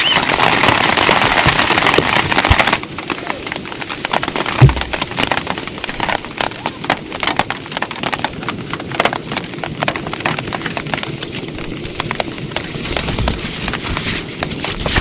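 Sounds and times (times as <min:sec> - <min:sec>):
heavy rain hitting a tent: 0:00.0 - 0:15.0.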